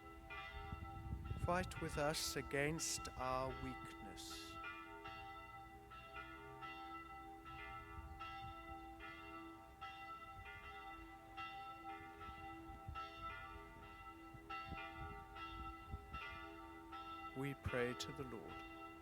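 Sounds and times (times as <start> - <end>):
church bells ringing: 0.0 - 19.0.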